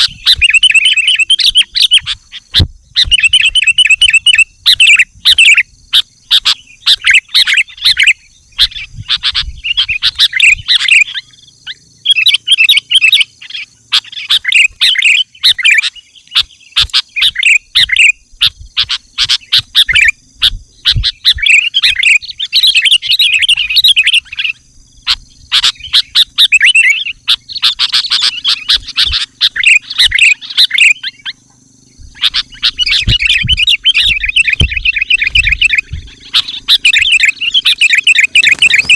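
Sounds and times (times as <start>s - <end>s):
bird singing chattering phrases: 0.0s - 38.9s.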